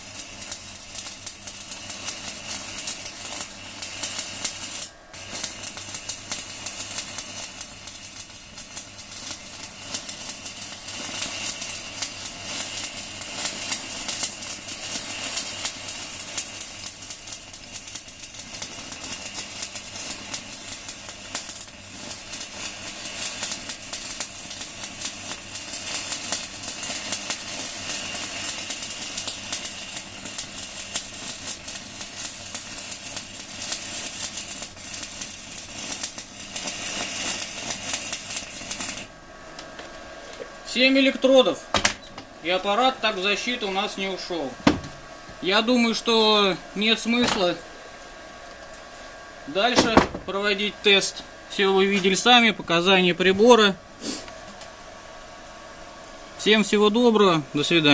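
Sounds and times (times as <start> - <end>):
welding arc crackle and sizzle: 0.0 - 57.9.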